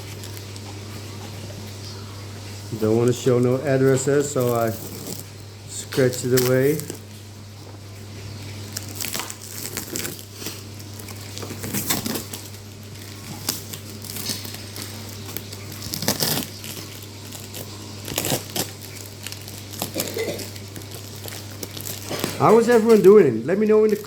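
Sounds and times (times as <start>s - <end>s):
packaging crinkling and tearing: 0.0s - 2.0s, 2.7s - 24.0s
steady low hum: 0.0s - 24.0s.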